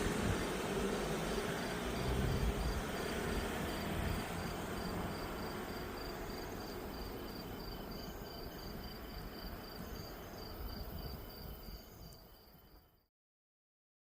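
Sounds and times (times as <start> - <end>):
crickets chirping: 0.0 - 13.1
fainter cricket chirping: 0.4 - 13.1.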